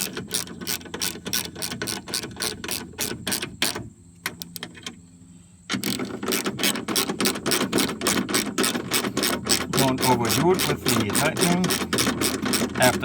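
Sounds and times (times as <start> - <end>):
hand ratchet clicking: 0.0 - 4.8, 5.7 - 13.0.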